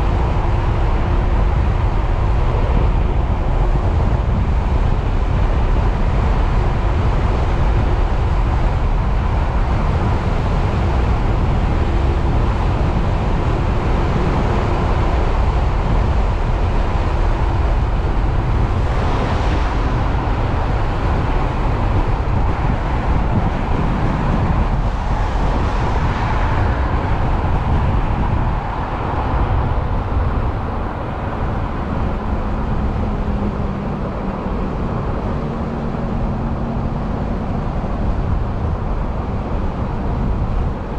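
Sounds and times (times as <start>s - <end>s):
road noise: 0.0s - 40.9s
wind rushing over microphone: 0.0s - 40.9s.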